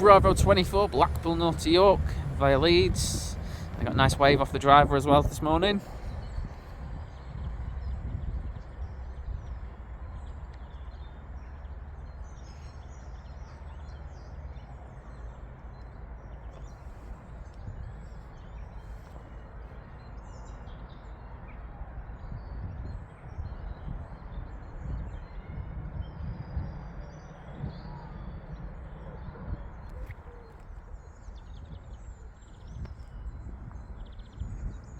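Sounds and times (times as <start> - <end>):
small birds chirping: 0.0 - 34.9
steady low rumble: 0.0 - 34.9.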